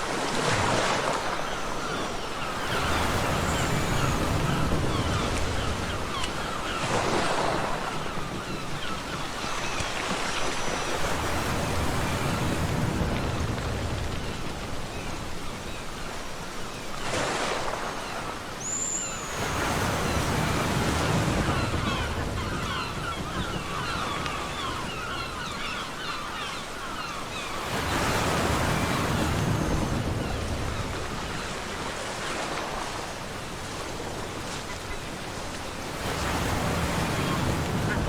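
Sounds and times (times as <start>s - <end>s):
ocean surf breaking: 0.0s - 14.9s, 17.1s - 26.1s, 26.9s - 38.0s.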